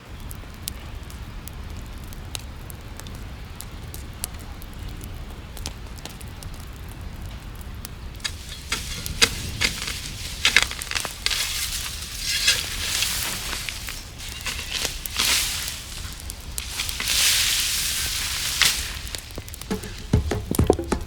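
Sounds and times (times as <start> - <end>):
fire hiss: 0.0 - 20.6
campfire crackling and popping: 0.0 - 21.0.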